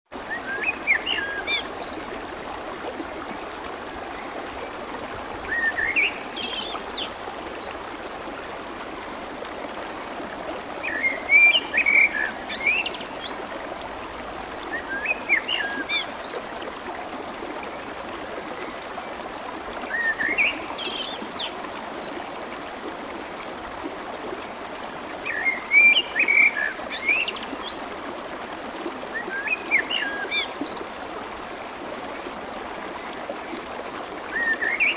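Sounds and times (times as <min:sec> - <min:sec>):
water babbling: 0:00.1 - 0:34.9.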